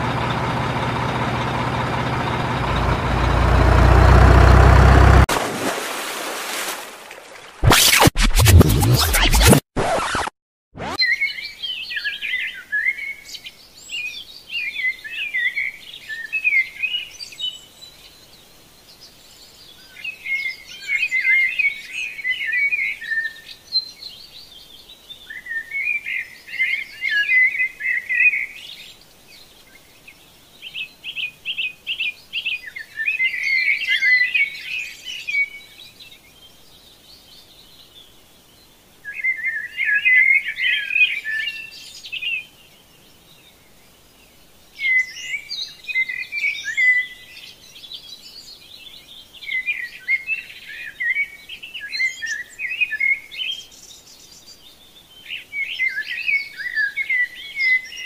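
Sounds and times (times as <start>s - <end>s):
songbirds twittering: 11.0s - 58.0s.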